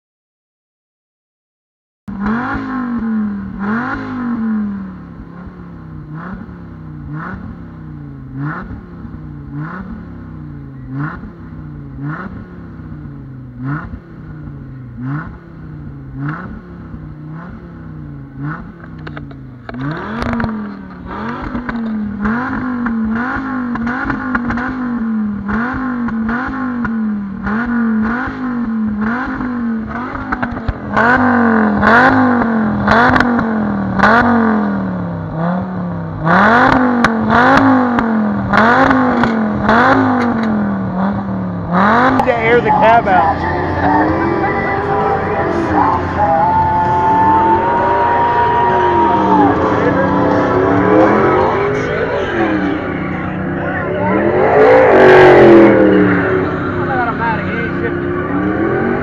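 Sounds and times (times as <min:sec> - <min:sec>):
sports car engine revving: 0:02.1 - 0:59.0.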